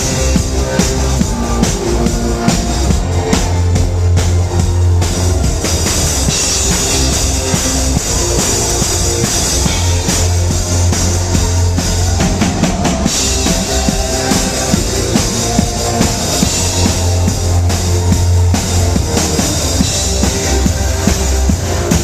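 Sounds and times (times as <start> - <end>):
low bass line: 0.0 - 22.0
rock band playing live: 0.0 - 22.0.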